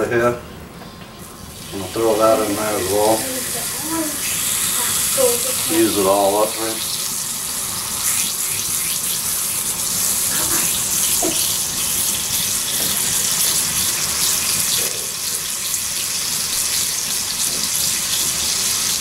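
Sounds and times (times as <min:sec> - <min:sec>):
pork sizzling in a pan: 0:01.2 - 0:19.0.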